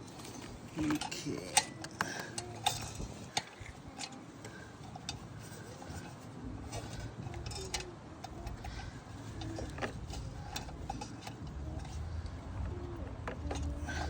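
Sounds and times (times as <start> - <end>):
small metal parts clicking: 0.0 - 14.0.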